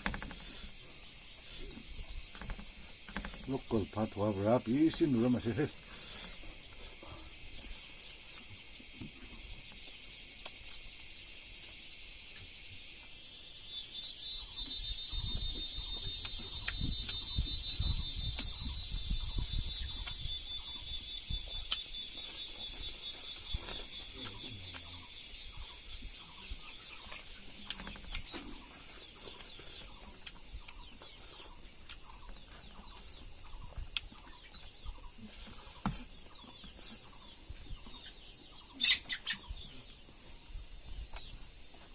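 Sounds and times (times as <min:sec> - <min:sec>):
insect chorus pulsing: 0:00.0 - 0:41.9.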